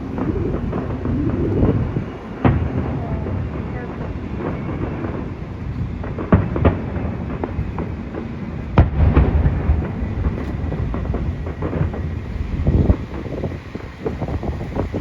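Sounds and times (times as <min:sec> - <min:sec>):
continuous low rumble: 0:00.0 - 0:15.0
firework shells bursting: 0:00.0 - 0:15.0.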